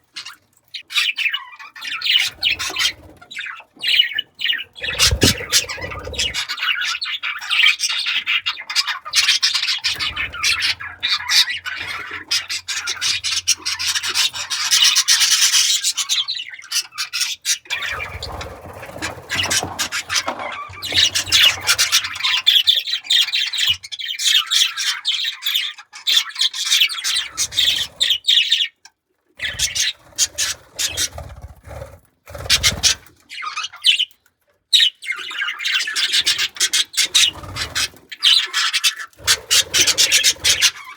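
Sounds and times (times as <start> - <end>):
budgerigars chattering and warbling: 0.0 - 28.8, 29.4 - 40.9.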